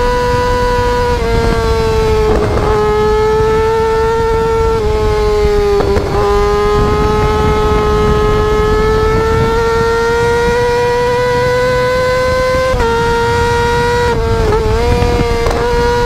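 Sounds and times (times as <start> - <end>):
motorcycle engine revving high: 0.0 - 16.0
wind on microphone: 0.0 - 16.0.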